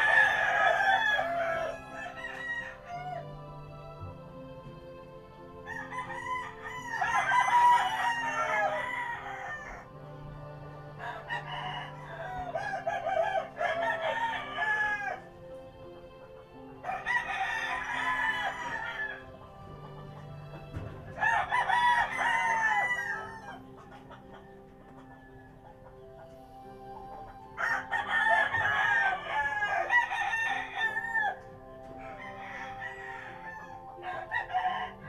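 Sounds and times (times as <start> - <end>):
rooster crowing: 0.0 - 35.0.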